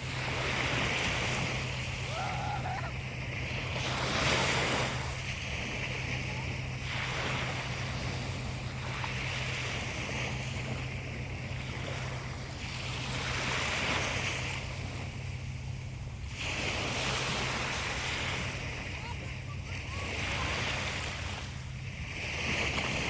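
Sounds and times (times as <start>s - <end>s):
sea waves washing in: 0.0s - 23.0s
steady low hum: 0.0s - 23.0s.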